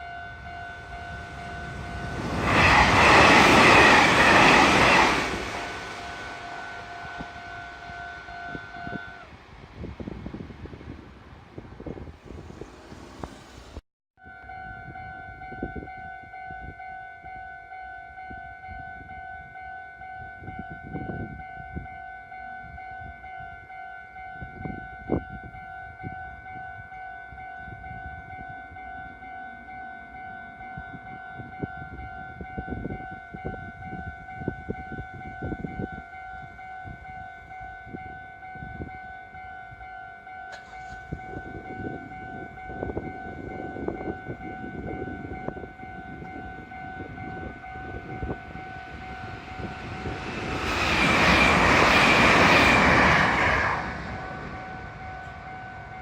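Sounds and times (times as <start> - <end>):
level-crossing alarm ringing: 0.0 - 9.2, 14.3 - 56.0.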